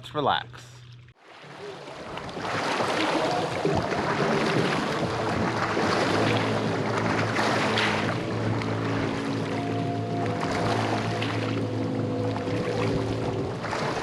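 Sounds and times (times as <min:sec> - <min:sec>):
low steady hum: 0:00.0 - 0:14.0
water rushing: 0:00.2 - 0:14.0.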